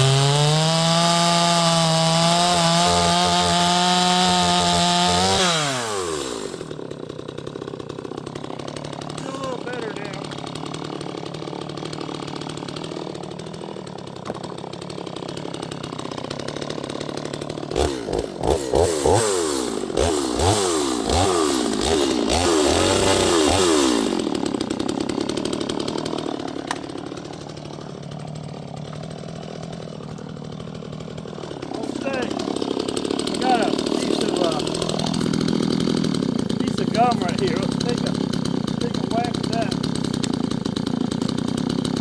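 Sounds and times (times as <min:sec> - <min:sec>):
chainsaw idling and revving: 0:00.0 - 0:42.0.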